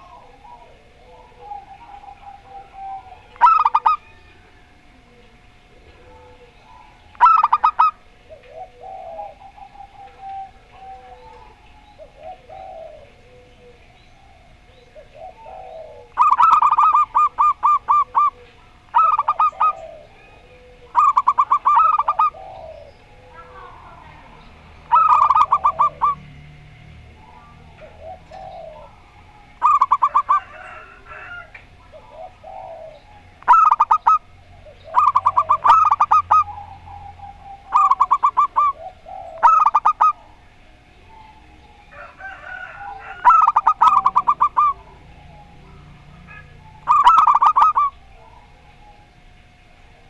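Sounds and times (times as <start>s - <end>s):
doves cooing: 0.0s - 50.0s.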